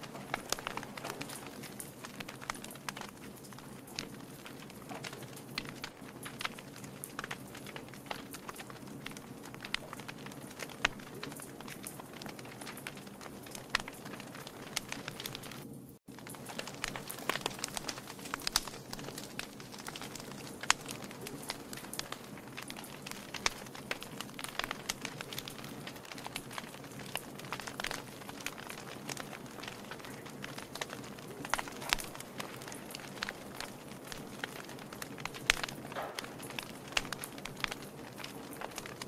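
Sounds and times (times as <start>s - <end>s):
fire crackling and popping: 0.0s - 39.0s
soft rush of flame: 0.0s - 39.0s.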